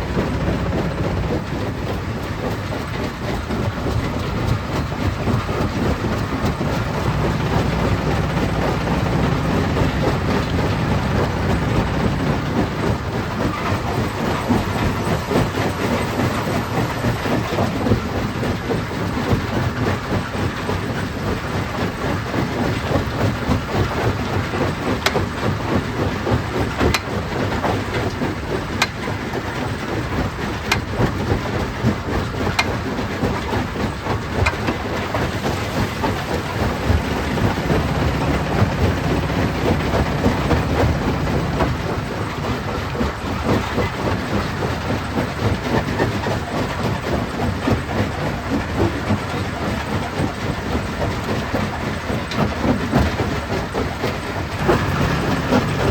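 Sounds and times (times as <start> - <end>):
stone crusher rumbling and rattling: 0.0 - 55.9.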